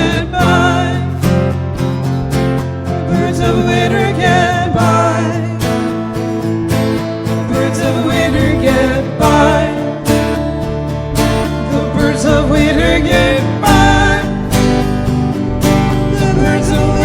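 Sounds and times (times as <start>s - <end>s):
bass: 0.0s - 17.0s
strummed acoustic guitar: 0.0s - 17.0s.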